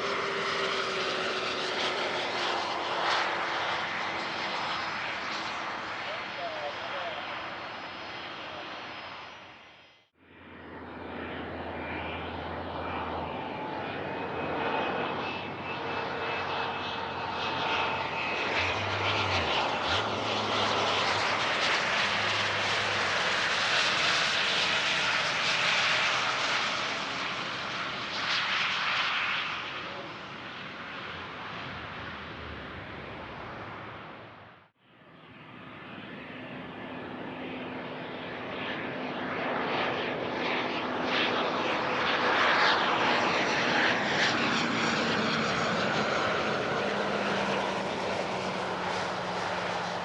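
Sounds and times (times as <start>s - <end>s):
jet engines with turbine whine: 0.0s - 50.0s.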